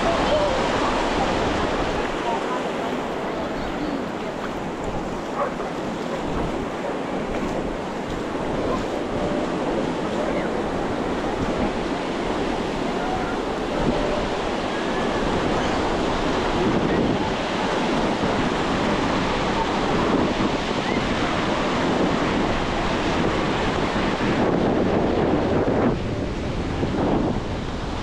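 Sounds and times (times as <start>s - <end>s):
ocean surf breaking on beach: 0.0s - 28.0s
wind buffeting microphone: 0.0s - 28.0s.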